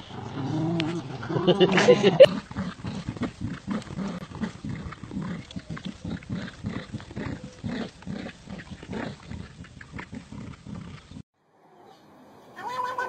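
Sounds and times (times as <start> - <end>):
dog growling in play: 0.0 - 11.2.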